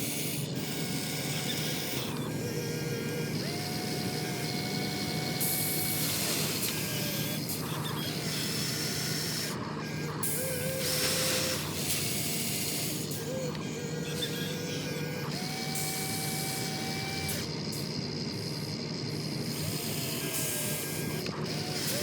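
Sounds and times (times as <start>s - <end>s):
electric motors whining: 0.0s - 22.0s
mechanical grinding noise: 0.0s - 22.0s.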